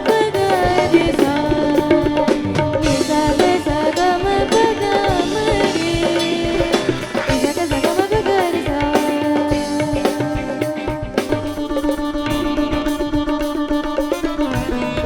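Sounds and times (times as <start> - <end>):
drums and percussion: 0.0 - 15.0
gliding melodic lead line: 0.0 - 15.0.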